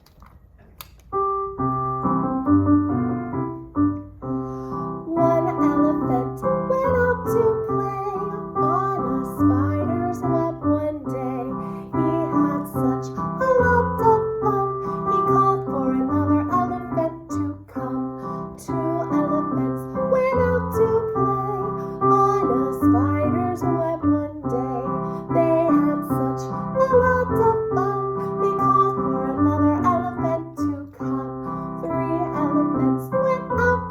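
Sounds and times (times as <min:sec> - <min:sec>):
piano chords: 0:01.0 - 0:33.9.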